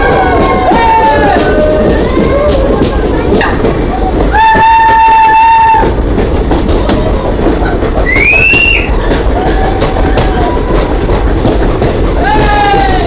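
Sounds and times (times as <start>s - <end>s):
train rumbling along track: 0.0s - 13.0s
wheels clicking over rail joints: 0.0s - 13.0s.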